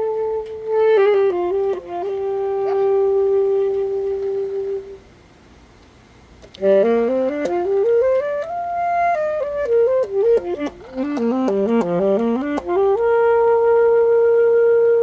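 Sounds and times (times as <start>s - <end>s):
alto saxophone playing: 0.0s - 5.1s, 6.5s - 15.0s.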